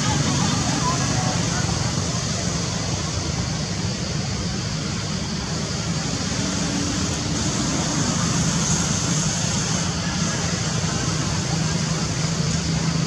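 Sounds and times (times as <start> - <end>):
high even hiss: 0.0 - 13.0.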